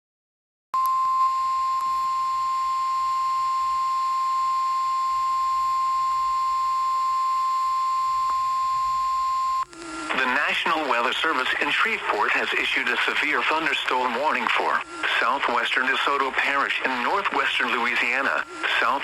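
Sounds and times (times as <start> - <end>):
steady high-pitched alarm tone: 0.8 - 16.6.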